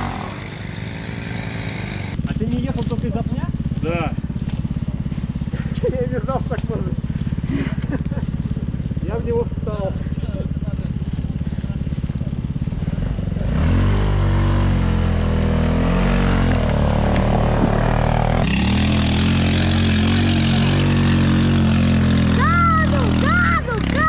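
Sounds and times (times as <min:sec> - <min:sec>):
buggy engine revving: 0:00.0 - 0:24.0.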